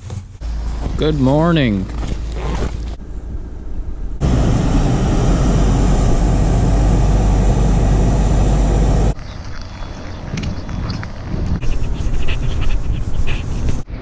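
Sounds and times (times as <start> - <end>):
car engine and road rumble: 0.0 - 13.9.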